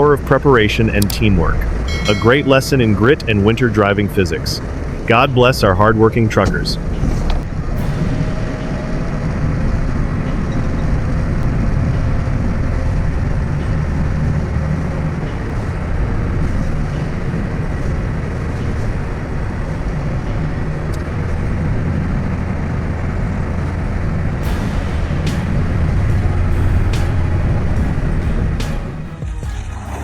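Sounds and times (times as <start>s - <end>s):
truck engine rumbling: 0.0s - 30.0s.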